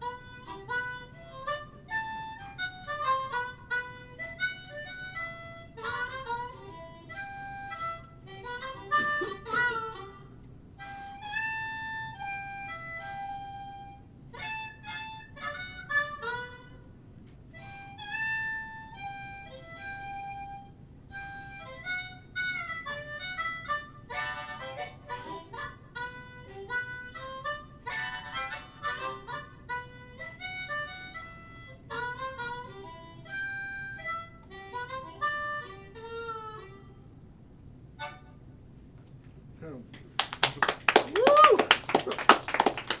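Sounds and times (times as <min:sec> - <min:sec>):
harmonica melody: 0:00.0 - 0:38.8.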